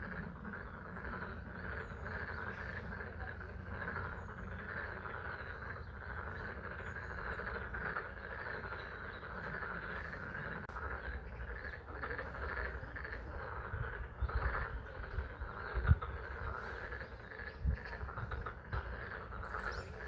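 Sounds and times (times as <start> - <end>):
frog chorus trilling: 0.0 - 20.0.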